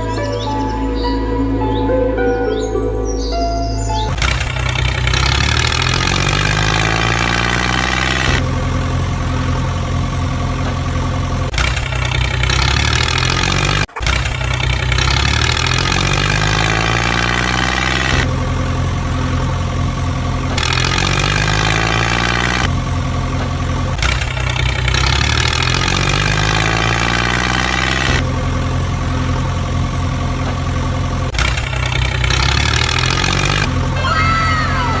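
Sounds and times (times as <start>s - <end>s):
tractor engine revving: 4.1s - 35.0s.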